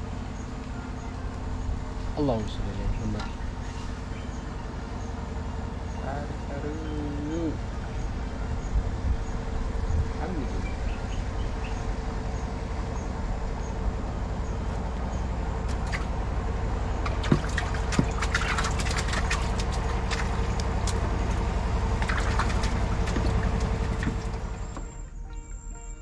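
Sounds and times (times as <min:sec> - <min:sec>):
motor droning: 0:00.0 - 0:26.0.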